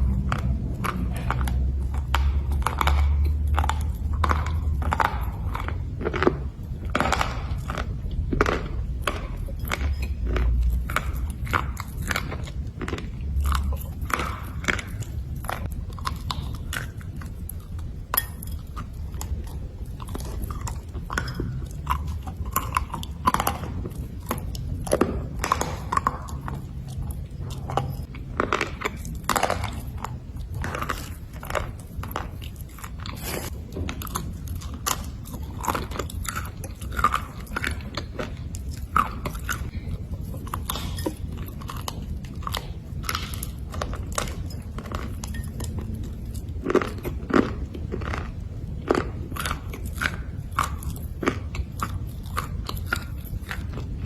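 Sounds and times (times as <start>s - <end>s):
person chewing slate: 0.0s - 54.0s.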